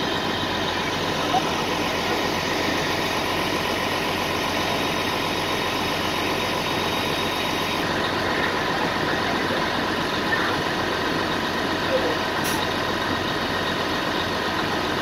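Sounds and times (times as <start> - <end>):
fire truck engine idling: 0.0 - 15.0.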